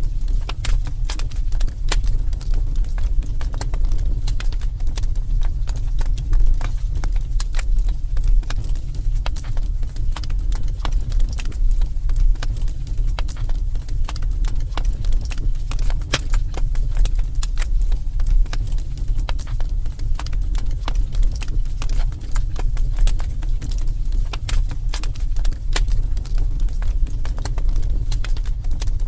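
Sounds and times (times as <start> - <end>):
fire crackling and popping: 0.0 - 29.0
fire rumbling: 0.0 - 29.0.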